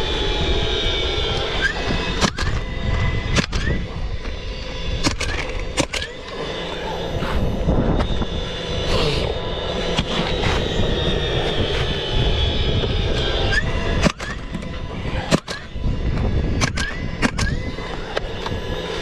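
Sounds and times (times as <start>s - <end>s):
aircraft droning overhead: 0.0s - 19.0s.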